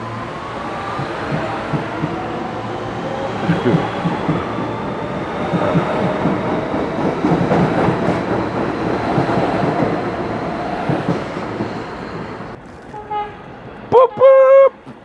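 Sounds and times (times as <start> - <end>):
subway train rumble: 0.0 - 15.0
train car rattling: 0.0 - 15.0.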